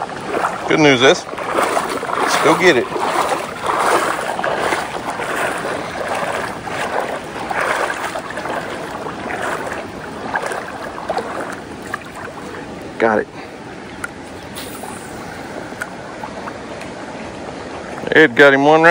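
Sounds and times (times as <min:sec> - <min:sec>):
creek water splashing and rushing: 0:00.0 - 0:18.9.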